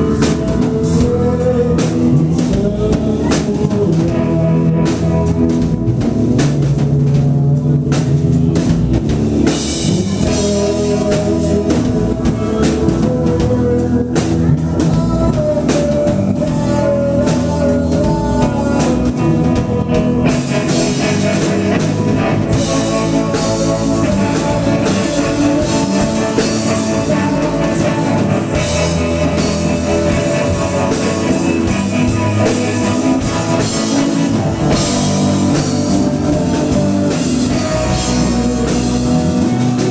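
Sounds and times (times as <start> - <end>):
bass guitar: 0.0 - 39.9
drum kit: 0.0 - 39.9
electric guitar: 0.0 - 39.9
keyboards: 0.0 - 39.9
person singing lead vocals: 0.0 - 39.9.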